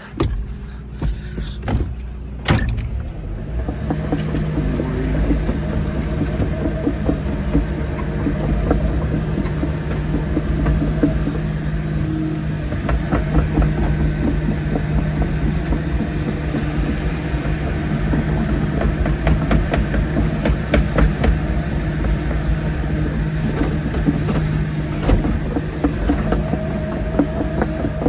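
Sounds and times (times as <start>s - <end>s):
excavator diesel engine running: 0.0s - 28.0s
knocks and rattles of digging: 0.0s - 28.0s.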